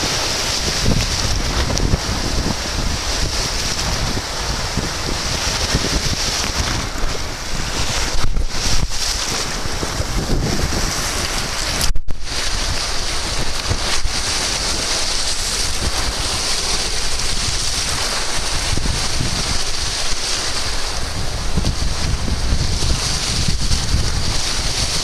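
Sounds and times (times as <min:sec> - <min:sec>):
small waves splashing: 0:00.0 - 0:25.0
strong wind buffeting microphone: 0:00.0 - 0:25.0.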